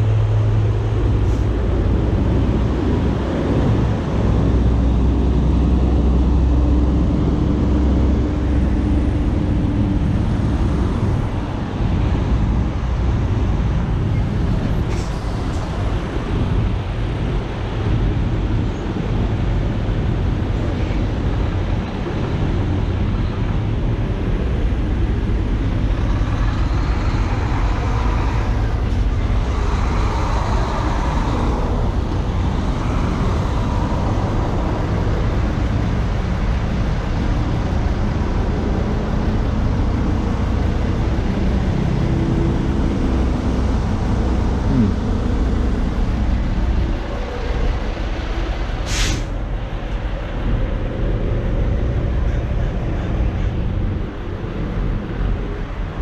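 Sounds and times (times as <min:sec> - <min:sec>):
traffic: 0:00.0 - 0:56.0
truck diesel engines rumbling: 0:00.0 - 0:56.0.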